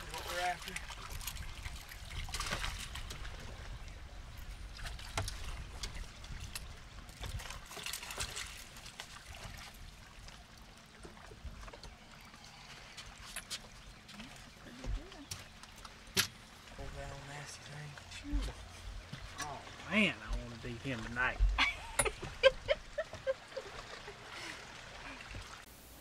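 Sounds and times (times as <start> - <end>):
water trickling and splashing: 0.0 - 25.8.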